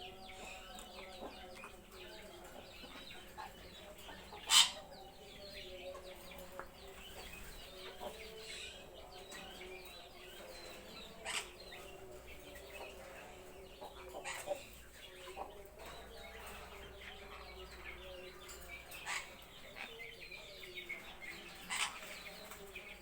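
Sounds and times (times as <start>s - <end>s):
birds chirping and chattering: 0.0s - 23.0s.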